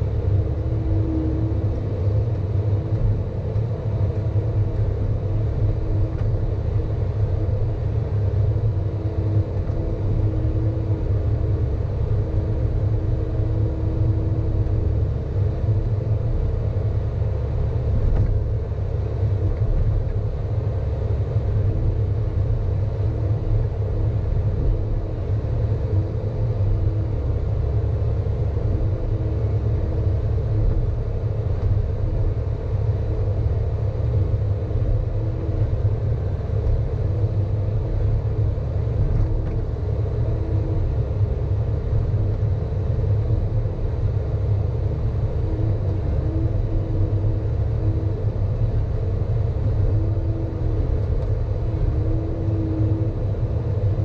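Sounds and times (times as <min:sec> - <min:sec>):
excavator diesel engine rumble: 0:00.0 - 0:54.0.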